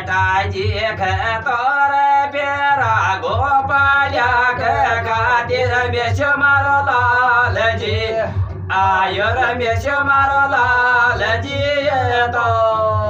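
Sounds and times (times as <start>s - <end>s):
man singing: 0.0s - 13.0s
steady low beat: 0.0s - 13.0s.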